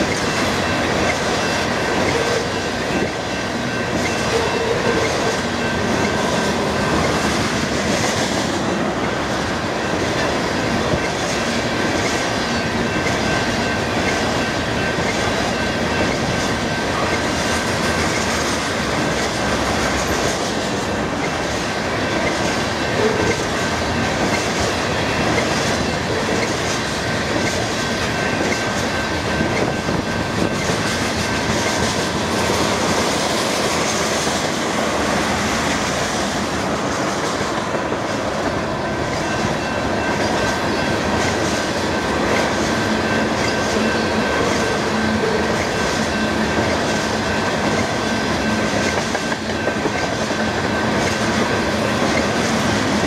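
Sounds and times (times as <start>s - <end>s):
train wheels rumbling on rails: 0.0s - 53.0s
wheels clicking over rail joints: 0.0s - 53.0s.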